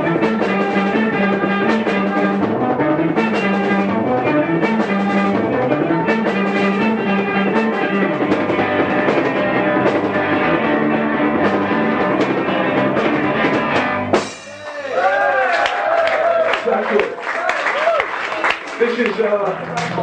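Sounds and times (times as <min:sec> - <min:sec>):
live rock band playing: 0:00.0 - 0:15.2, 0:18.1 - 0:20.0.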